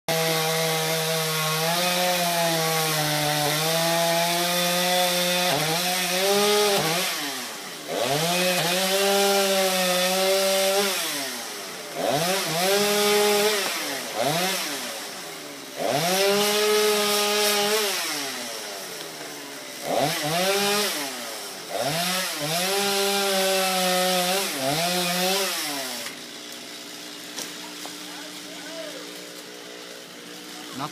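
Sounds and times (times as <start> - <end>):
chainsaw revving: 0.1 - 30.9.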